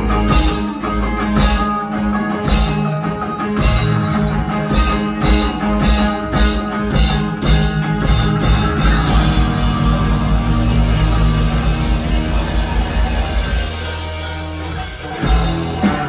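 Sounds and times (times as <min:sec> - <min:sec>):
electric guitar: 0:00.0 - 0:16.0
live rock band playing: 0:00.0 - 0:16.0.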